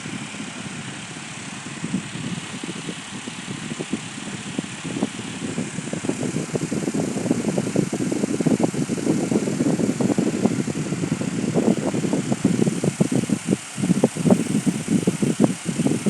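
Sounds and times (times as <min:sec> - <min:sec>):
kiddie ride mechanical rumble: 0:00.0 - 0:16.0.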